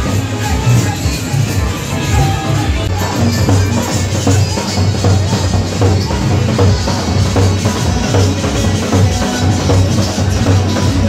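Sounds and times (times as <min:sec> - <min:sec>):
low drum beat: 0:00.0 - 0:11.0.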